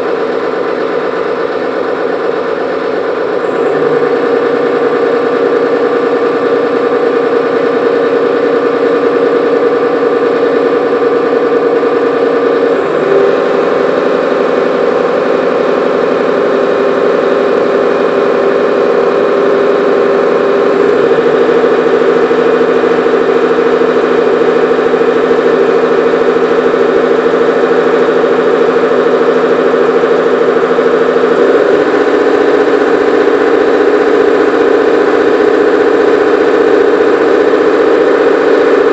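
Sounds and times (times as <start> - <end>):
stirling engine running hum: 0.0 - 38.9.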